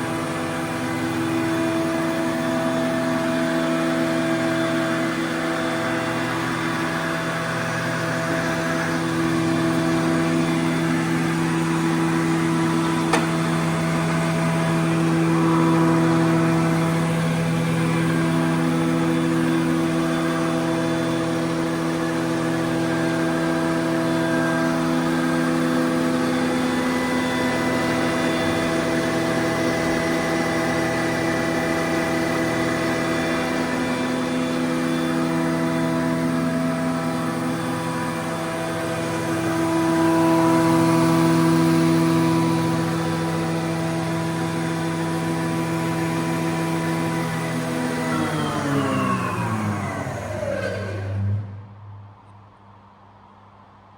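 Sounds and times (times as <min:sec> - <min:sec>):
planer machine hum: 0:00.0 - 0:52.4.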